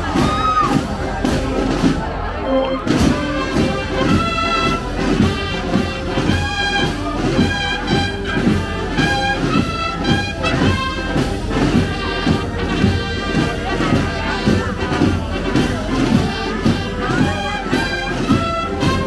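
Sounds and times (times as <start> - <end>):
brass band playing march: 0.0 - 19.0.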